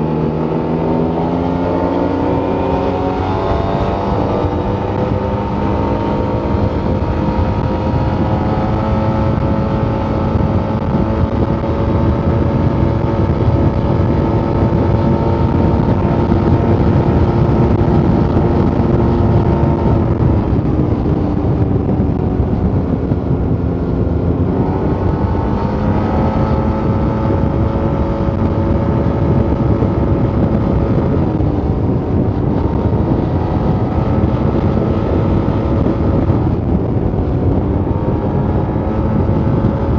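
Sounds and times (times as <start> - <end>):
scooter engine running: 0.0 - 39.9
wind noise: 0.0 - 39.9.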